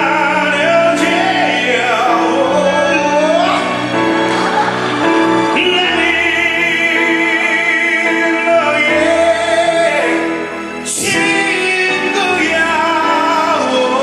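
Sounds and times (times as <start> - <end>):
choir-like backing voices: 0.0 - 14.0
live band music: 0.0 - 14.0
person singing long notes: 0.0 - 14.0.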